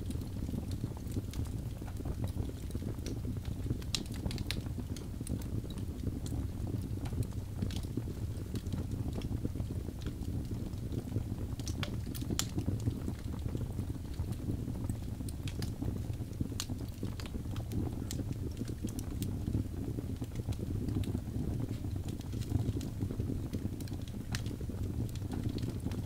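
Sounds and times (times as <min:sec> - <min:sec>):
log fire crackling and popping: 0:00.0 - 0:26.0.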